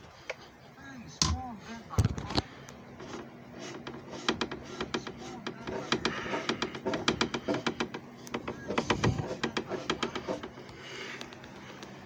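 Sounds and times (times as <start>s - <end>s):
machine motor humming: 1.2s - 12.0s
sharp clicks and rattles: 2.0s - 11.9s.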